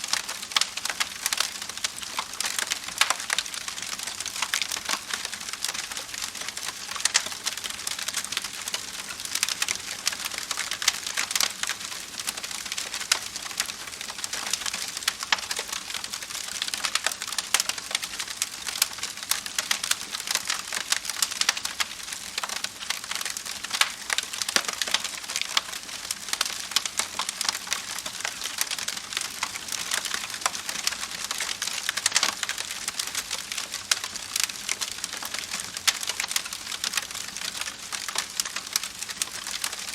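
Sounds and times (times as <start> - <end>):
fire hissing softly: 0.0 - 39.9
campfire crackling: 0.1 - 39.9.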